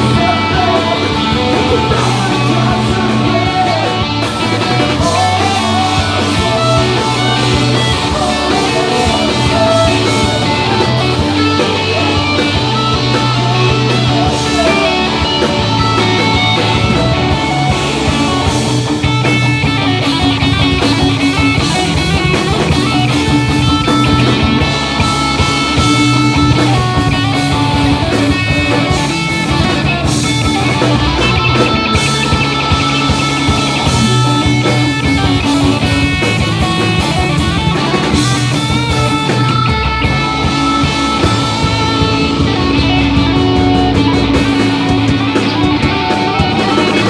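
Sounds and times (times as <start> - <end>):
bass guitar: 0.0 - 47.0
distorted electric guitars: 0.0 - 47.0
drum kit: 0.0 - 47.0.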